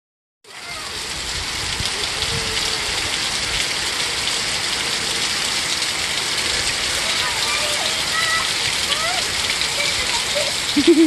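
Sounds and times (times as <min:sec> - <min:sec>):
heavy rain pouring: 0:00.5 - 0:11.0.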